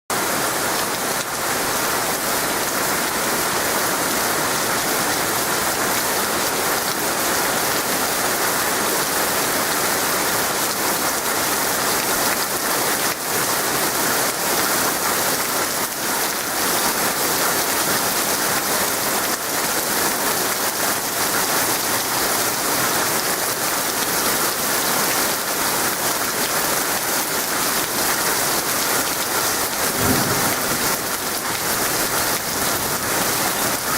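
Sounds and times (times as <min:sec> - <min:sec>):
torrential rain pouring: 0:00.1 - 0:33.9.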